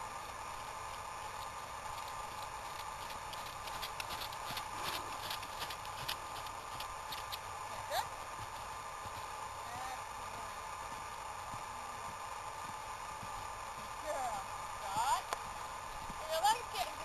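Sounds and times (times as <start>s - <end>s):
horse hooves trotting on sand: 0.0s - 17.0s.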